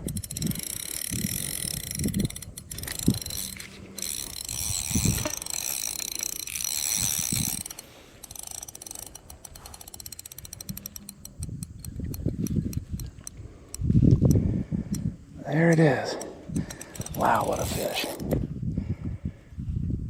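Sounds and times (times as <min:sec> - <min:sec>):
fishing reel ratcheting: 0:00.0 - 0:18.4.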